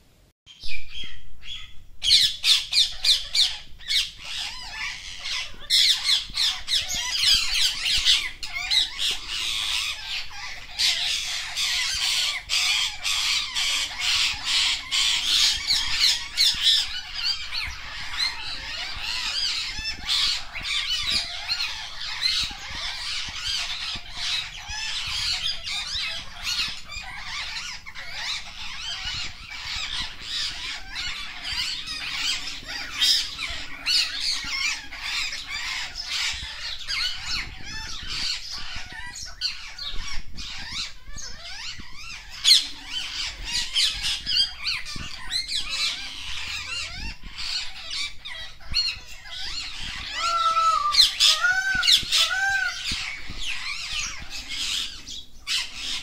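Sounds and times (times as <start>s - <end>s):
parakeets calling: 0.5s - 56.0s.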